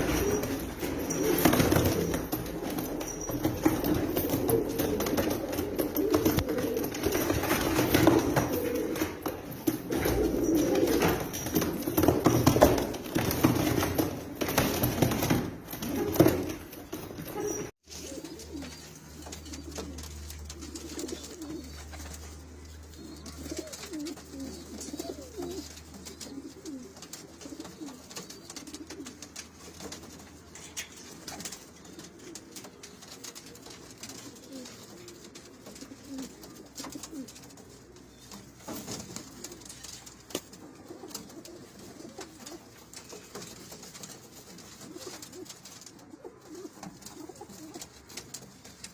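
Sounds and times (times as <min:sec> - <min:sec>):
pigeons cooing: 0:00.0 - 0:14.1, 0:15.8 - 0:29.4, 0:31.8 - 0:48.3.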